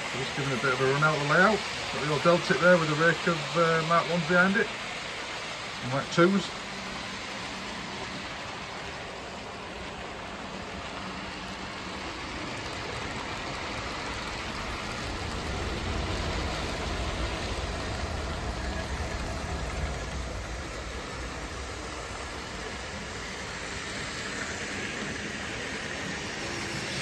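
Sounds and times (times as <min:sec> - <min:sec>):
model trains whirring on track: 0:00.0 - 0:27.0.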